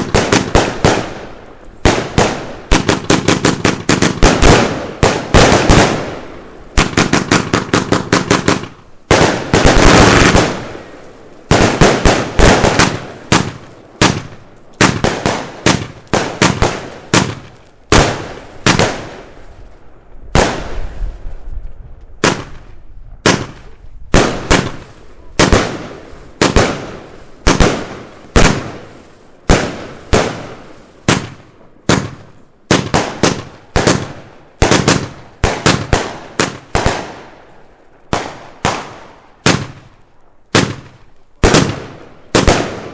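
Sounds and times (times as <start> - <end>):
fireworks bangs: 0.0 - 42.9.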